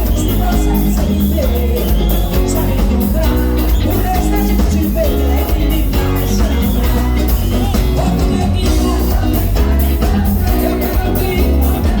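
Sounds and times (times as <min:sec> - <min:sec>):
band music with heavy bass: 0:00.0 - 0:12.0
drum beats: 0:00.0 - 0:12.0
person singing: 0:00.0 - 0:12.0.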